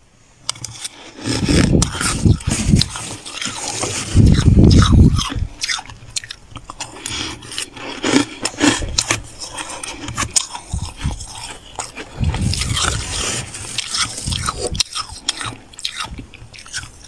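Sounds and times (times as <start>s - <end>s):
crunchy chewing of frost: 0.4s - 17.0s.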